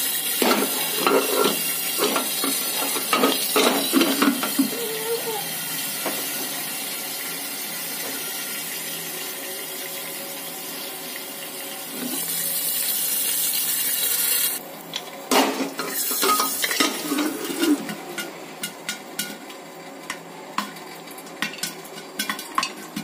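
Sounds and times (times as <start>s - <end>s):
hot oil sizzling with popcorn: 0.0s - 23.0s.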